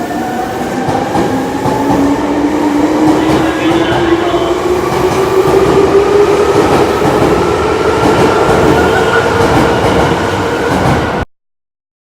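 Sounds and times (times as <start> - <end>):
subway train rolling rumble: 0.0 - 11.2.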